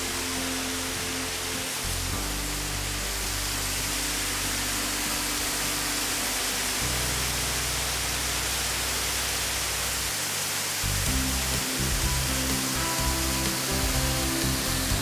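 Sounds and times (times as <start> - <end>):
low sustained music chords: 0.0 - 15.0
waterfall rushing over rock: 0.0 - 15.0.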